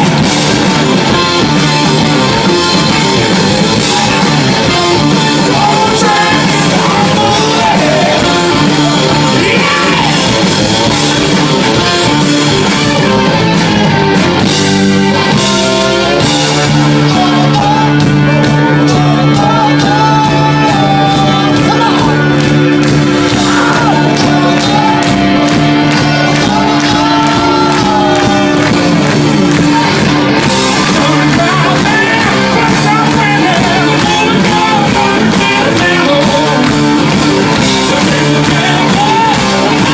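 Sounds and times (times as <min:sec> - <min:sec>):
distorted electric guitar: 0:00.0 - 0:39.9
drums: 0:00.0 - 0:39.9
person singing: 0:02.4 - 0:10.8, 0:15.1 - 0:39.9.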